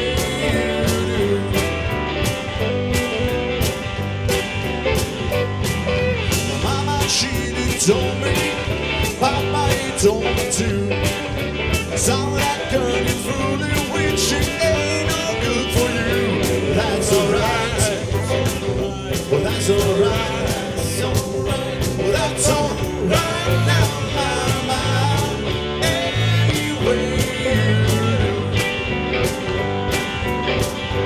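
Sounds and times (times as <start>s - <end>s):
drum kit with cymbals: 0.0s - 31.0s
electric bass: 0.0s - 31.0s
electric guitars: 0.0s - 31.0s.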